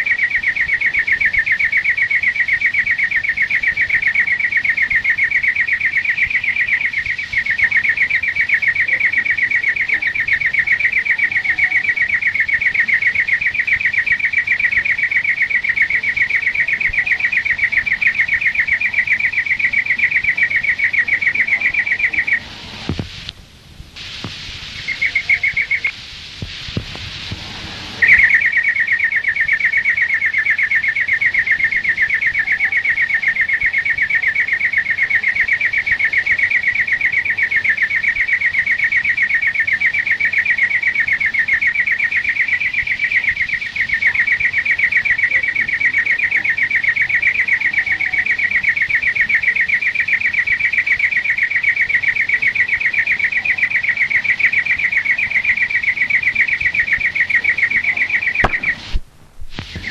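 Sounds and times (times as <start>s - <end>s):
finch singing rapid trill: 0.0s - 22.8s, 24.7s - 25.9s, 28.0s - 59.0s.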